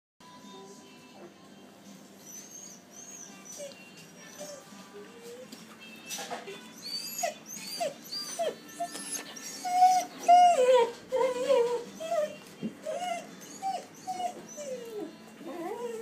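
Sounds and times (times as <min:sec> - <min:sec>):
dog whining and whimpering: 0:02.2 - 0:05.6, 0:06.5 - 0:16.0.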